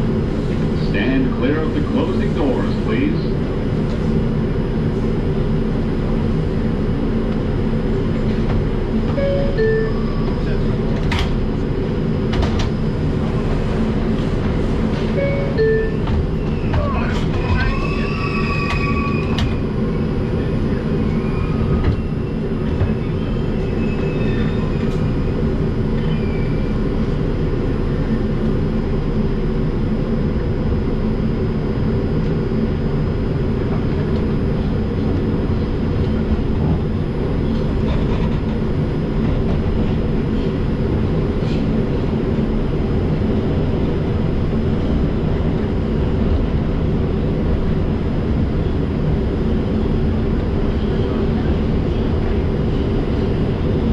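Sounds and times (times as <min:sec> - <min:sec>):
subway wheels rumbling on rail: 0:00.0 - 0:53.9.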